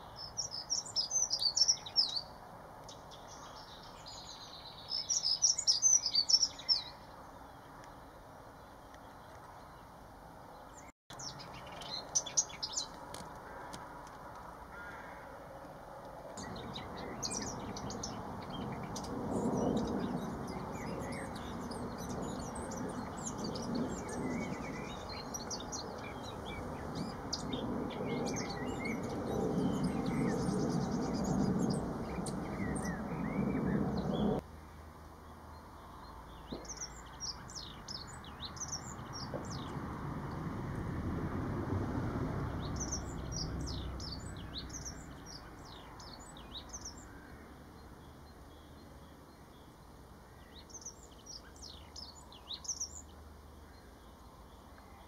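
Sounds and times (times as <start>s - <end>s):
bird warbling song: 0.0s - 9.8s, 10.6s - 13.7s, 16.4s - 34.4s, 36.3s - 40.4s, 42.5s - 47.4s, 50.3s - 55.0s
songbirds chirping: 0.0s - 55.0s.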